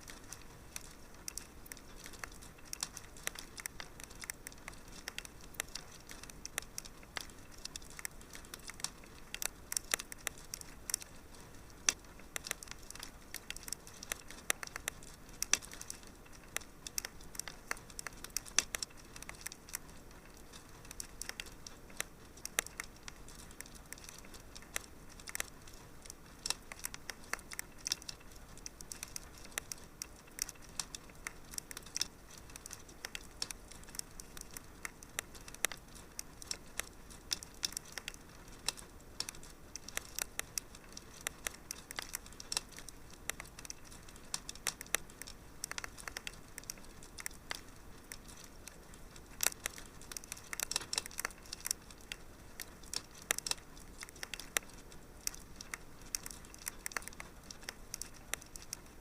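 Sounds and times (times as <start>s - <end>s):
fire crackling and popping: 0.0s - 59.0s
soft steady hiss: 0.0s - 59.0s.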